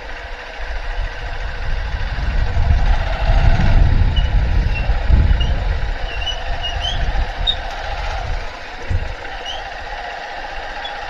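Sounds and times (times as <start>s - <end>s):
motorbike engine running: 0.0s - 11.0s
wind buffeting microphone: 0.0s - 11.0s.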